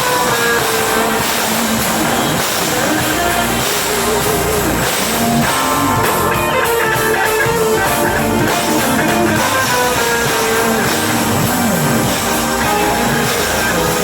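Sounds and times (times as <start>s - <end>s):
electric guitar: 0.0s - 14.0s
rock band instrumental: 0.0s - 14.0s.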